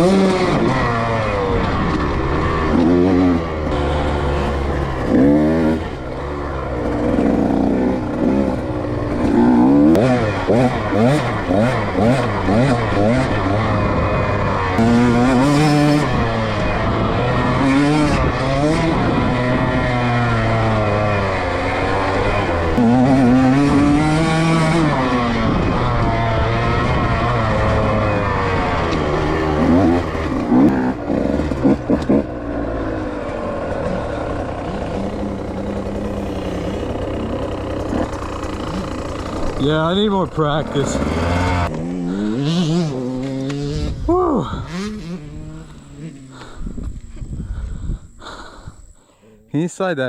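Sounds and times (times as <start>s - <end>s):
dirt bike engine revving: 0.0s - 49.6s.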